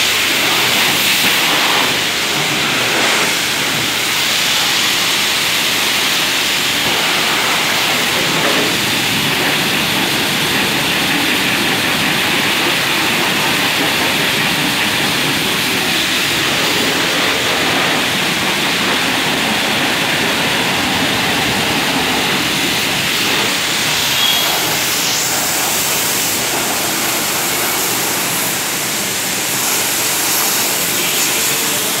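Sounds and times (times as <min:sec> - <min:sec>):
pressure washer spraying water: 0:00.0 - 0:32.0.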